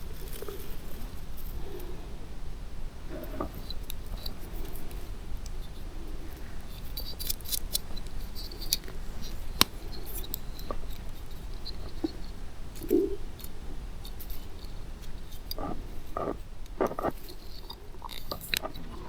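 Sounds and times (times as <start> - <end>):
crisp clicks and snips: 3.2 - 12.2, 12.8 - 19.0.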